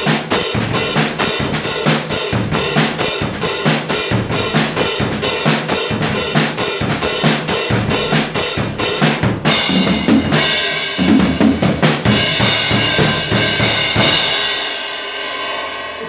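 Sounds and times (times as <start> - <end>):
cymbal crashes: 0.0 - 11.2, 12.0 - 16.0
bass drum and snare beat: 0.0 - 14.8.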